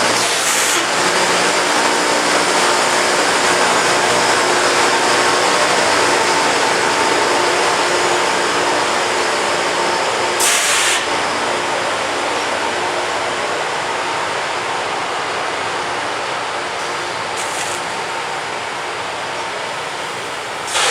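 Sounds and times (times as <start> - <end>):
grinding stones hissing on rail: 0.0 - 13.1, 16.7 - 20.9.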